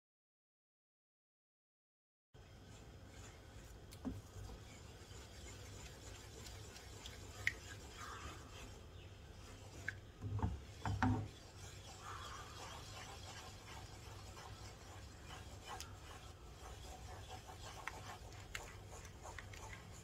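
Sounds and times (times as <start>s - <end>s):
spatula stirring thick custard: 2.4s - 20.0s.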